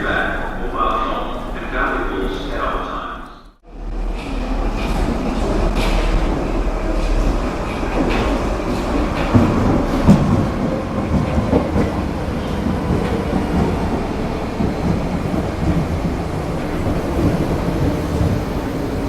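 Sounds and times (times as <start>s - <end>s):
metro train rumbling: 0.0s - 19.0s.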